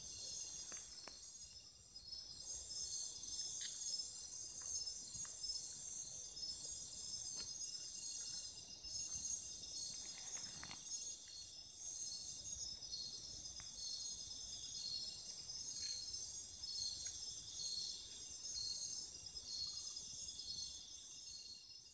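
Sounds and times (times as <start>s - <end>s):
night insects trilling: 0.0s - 21.9s.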